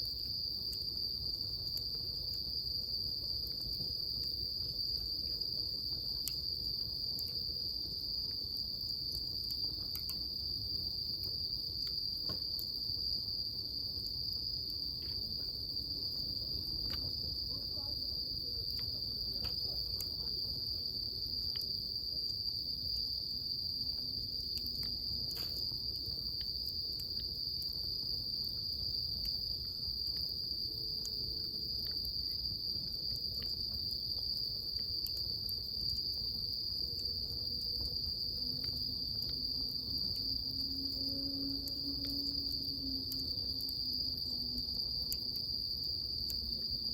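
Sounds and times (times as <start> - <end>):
high insect trill: 0.0 - 46.9
wood fire crackling: 0.0 - 46.9.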